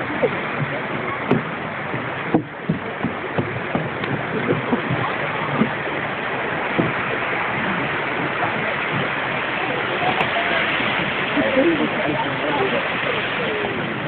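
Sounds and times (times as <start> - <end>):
low thumps: 0.0 - 14.0
wind buffeting microphone: 0.0 - 14.0.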